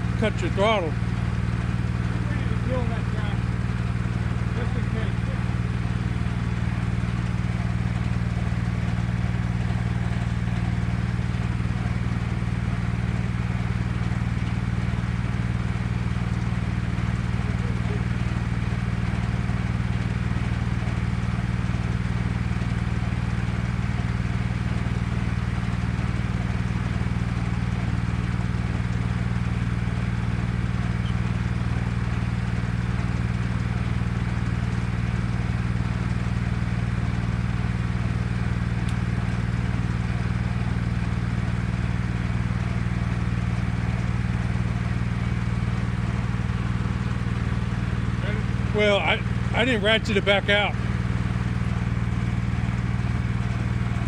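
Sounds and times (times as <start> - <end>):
sawmill engine drone: 0.0 - 54.0.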